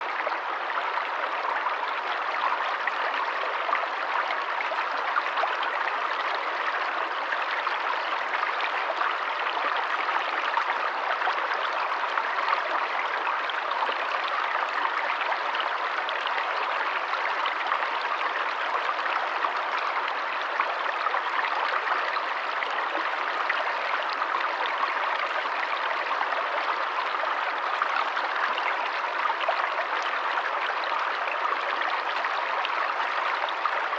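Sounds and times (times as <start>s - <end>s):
rush of flowing water: 0.0s - 33.9s.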